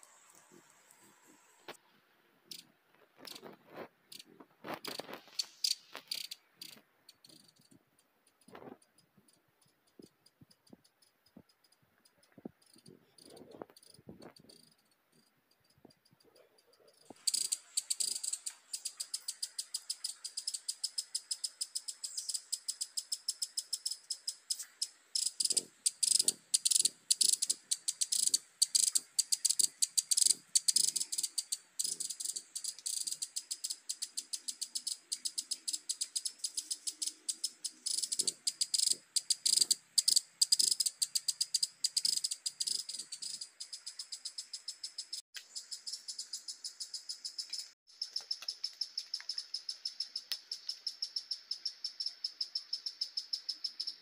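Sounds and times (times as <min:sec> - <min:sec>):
insect chirping shrilly: 0:04.1 - 0:07.8, 0:08.4 - 0:16.0, 0:16.9 - 0:54.0.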